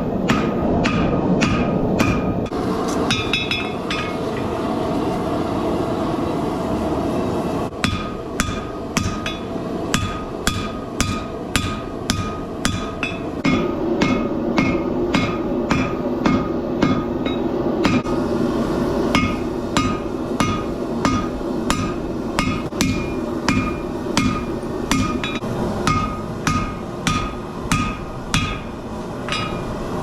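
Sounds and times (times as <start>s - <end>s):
hammer striking steel on anvil: 0.0s - 4.5s, 7.8s - 29.8s
low background rush: 0.0s - 30.0s.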